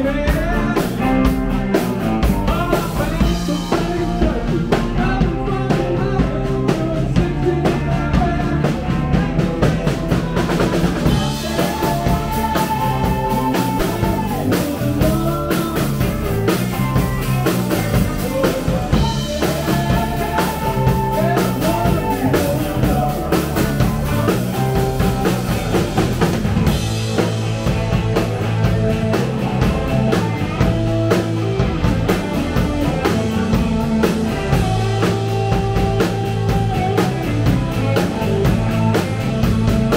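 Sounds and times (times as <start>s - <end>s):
drum kit beat: 0.0s - 39.9s
electric bass: 0.0s - 39.9s
electric guitars: 0.0s - 39.9s.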